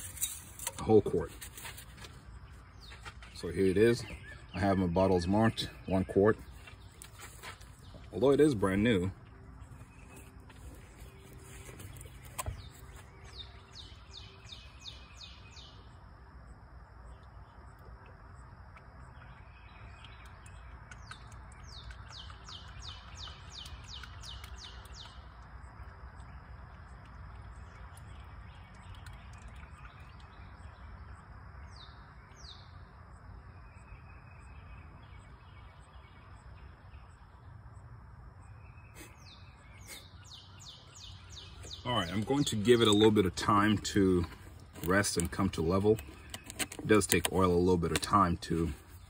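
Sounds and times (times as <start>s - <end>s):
outdoor background noise: 0.0s - 49.0s
songbird chirping: 0.0s - 49.0s.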